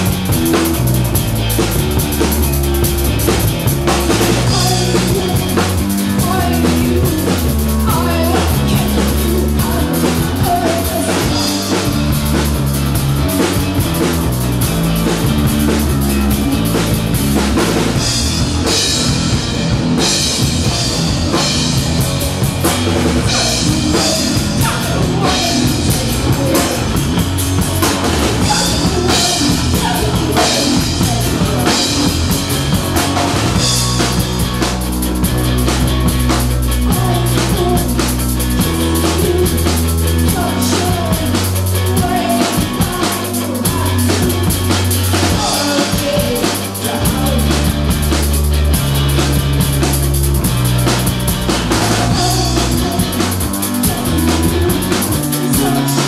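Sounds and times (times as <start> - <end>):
loud rock music: 0.0 - 56.0.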